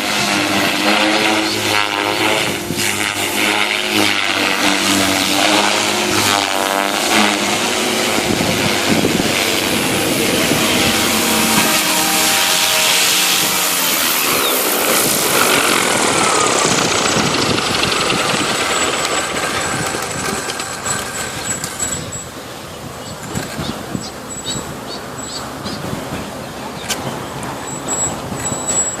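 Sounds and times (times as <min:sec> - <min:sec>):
model helicopter whining: 0:00.0 - 0:29.0.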